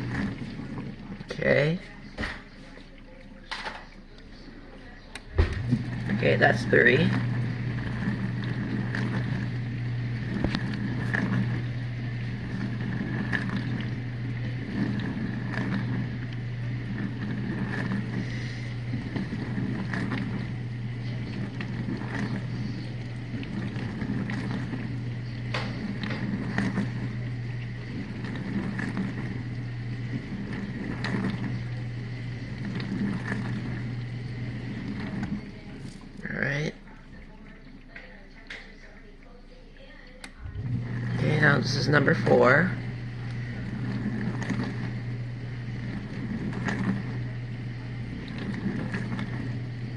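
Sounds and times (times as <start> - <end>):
dishwasher humming and whining: 0.0 - 49.9.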